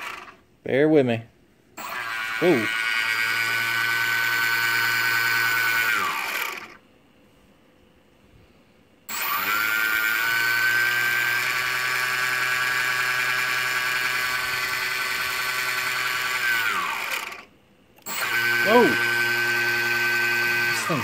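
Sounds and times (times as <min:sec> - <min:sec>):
electric motor high-pitched whine: 0:01.8 - 0:06.8, 0:09.1 - 0:21.0.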